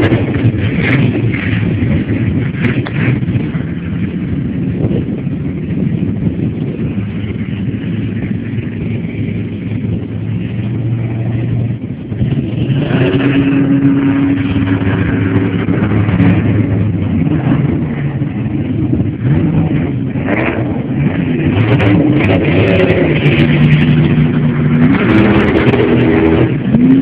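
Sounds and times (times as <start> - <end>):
jet boat engine running: 0.0 - 27.0.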